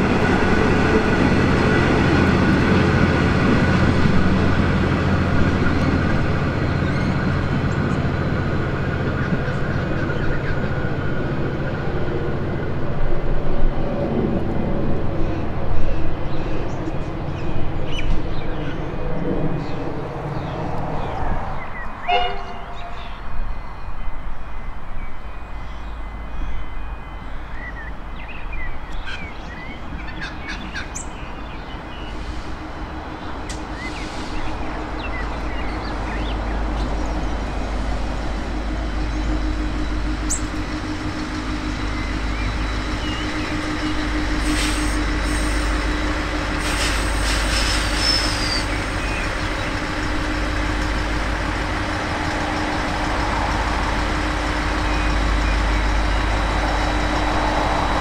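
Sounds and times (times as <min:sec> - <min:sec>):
train diesel engine drone: 0:00.0 - 0:58.0.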